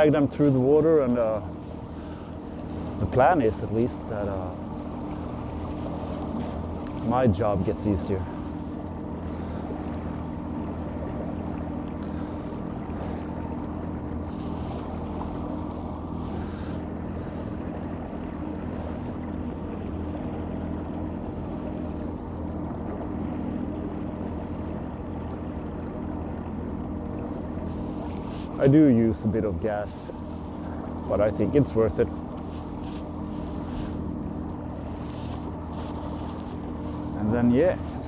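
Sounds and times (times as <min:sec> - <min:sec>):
outboard motor running: 0:00.0 - 0:38.0
propeller churning water: 0:00.0 - 0:38.0.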